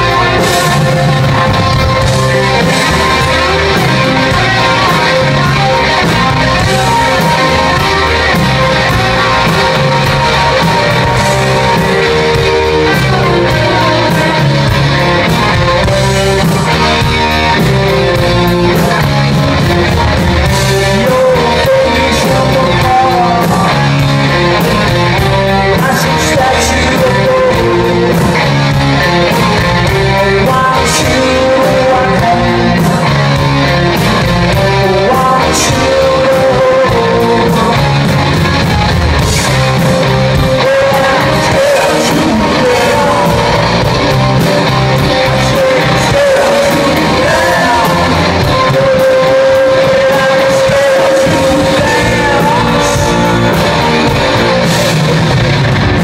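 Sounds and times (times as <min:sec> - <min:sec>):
bass guitar: 0:00.0 - 0:56.0
drums: 0:00.0 - 0:56.0
electric guitars: 0:00.0 - 0:56.0
lead singer singing: 0:00.0 - 0:56.0.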